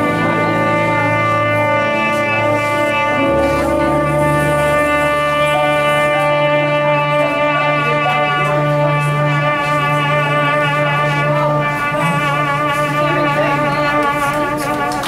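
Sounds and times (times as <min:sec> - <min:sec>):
backing music with low bass: 0:00.0 - 0:14.5
trumpet long note with vibrato: 0:00.0 - 0:15.0.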